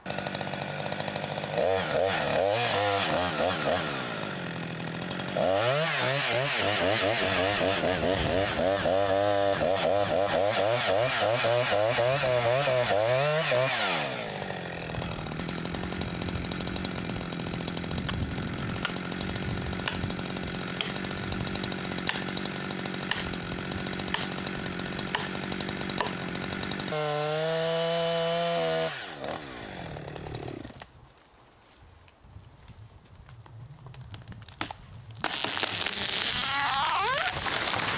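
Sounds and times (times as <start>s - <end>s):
chainsaw running and cutting: 0.0s - 30.9s, 35.2s - 37.9s.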